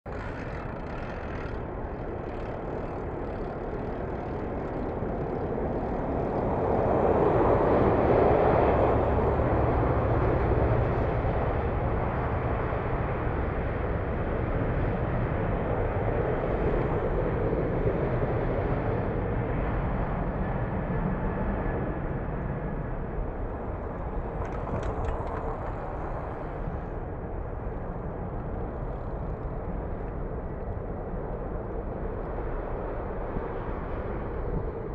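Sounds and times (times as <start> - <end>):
jet airliner engines roaring: 0.2 - 34.9.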